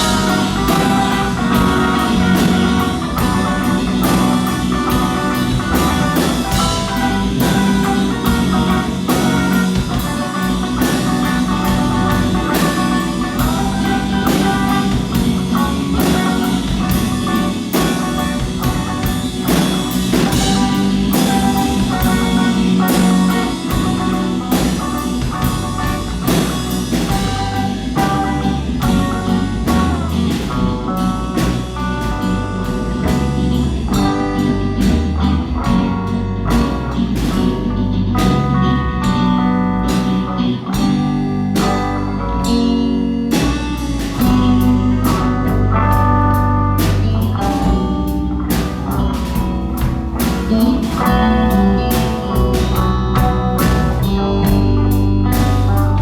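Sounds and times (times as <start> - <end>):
drum kit steady beat: 0.0 - 56.0
electric guitar: 0.0 - 56.0
rock band playing: 0.0 - 56.0.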